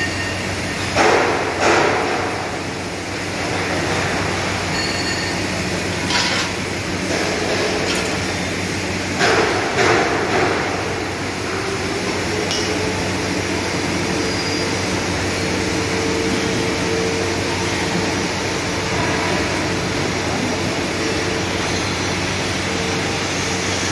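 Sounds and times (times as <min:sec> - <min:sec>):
industrial fans and machinery droning: 0:00.0 - 0:23.9.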